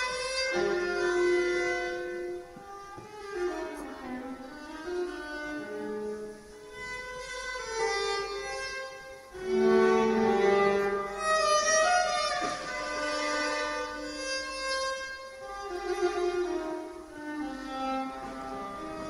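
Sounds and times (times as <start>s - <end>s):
violin playing slow melody: 0.0s - 19.0s.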